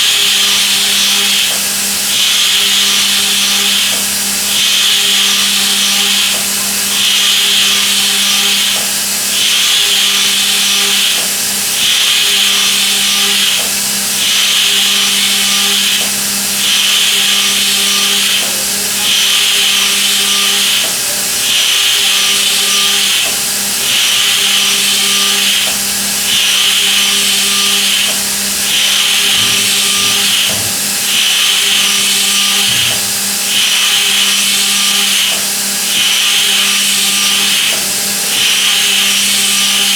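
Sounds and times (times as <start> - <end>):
hissing cutting noise: 0.0 - 39.9
milling machine hum: 0.0 - 39.9.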